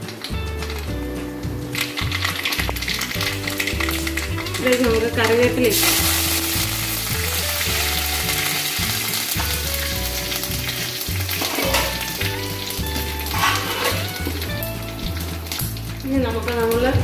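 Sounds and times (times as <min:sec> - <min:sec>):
background music with bass line: 0:00.0 - 0:17.0
seeds sizzling in hot oil: 0:00.0 - 0:17.0.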